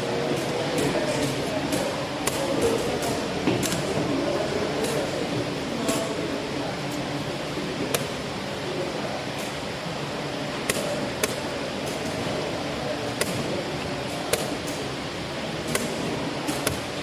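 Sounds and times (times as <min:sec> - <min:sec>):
busy hall background noise: 0:00.0 - 0:17.0.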